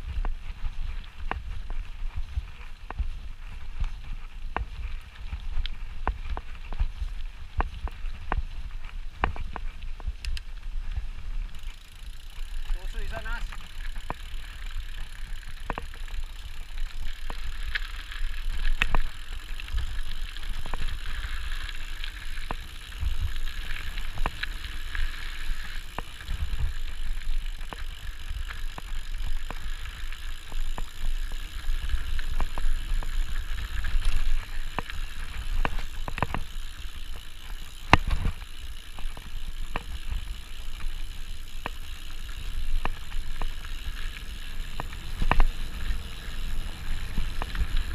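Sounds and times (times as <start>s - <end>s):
bike tyres crunching on gravel: 0.0s - 47.9s
bike knocks and rattles: 1.2s - 10.3s, 10.9s - 47.9s.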